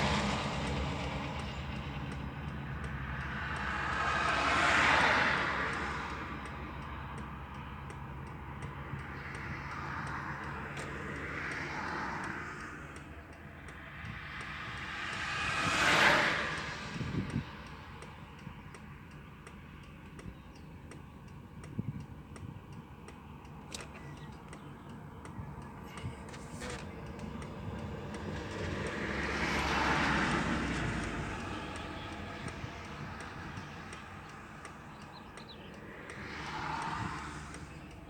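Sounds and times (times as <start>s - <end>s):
vehicle passing: 0.0s - 18.0s, 23.8s - 38.0s.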